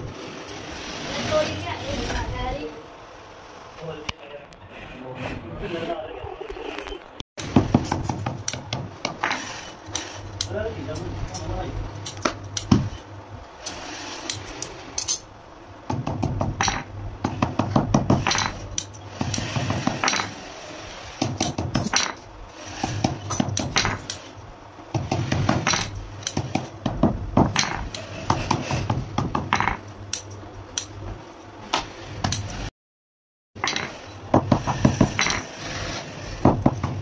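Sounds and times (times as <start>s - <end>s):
steady low hum: 0.0s - 32.7s.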